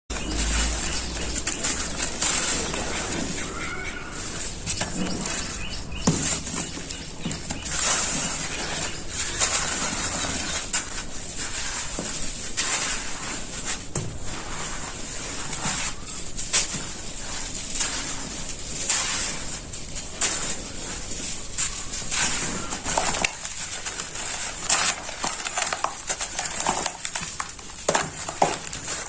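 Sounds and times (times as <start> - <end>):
dry sand being crushed: 0.1 - 29.0.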